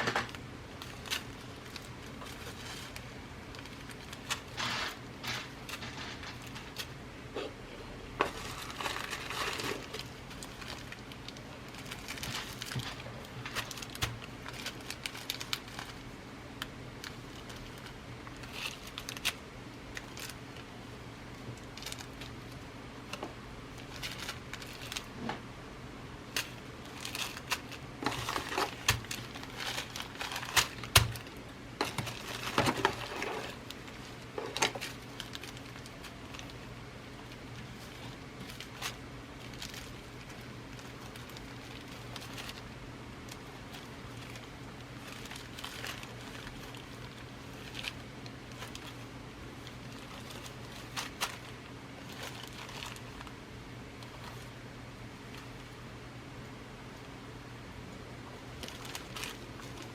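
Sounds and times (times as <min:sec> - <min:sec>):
packaging rustling: 0:00.0 - 0:07.0, 0:08.2 - 0:25.4, 0:26.2 - 0:55.8, 0:58.5 - 0:59.9.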